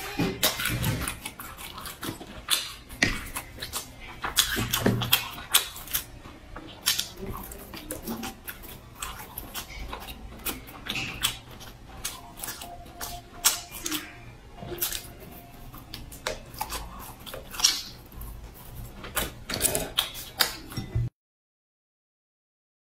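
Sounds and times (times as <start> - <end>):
biting and chewing food: 0.0 - 21.1.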